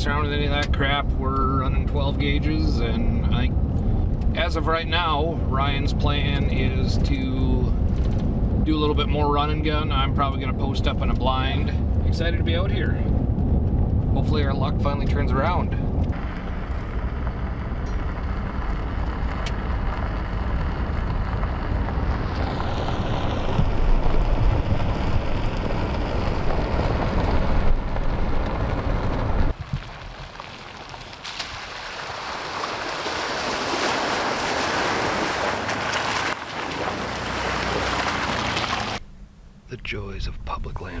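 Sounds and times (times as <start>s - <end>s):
vehicle road noise rumble: 0.0s - 41.0s.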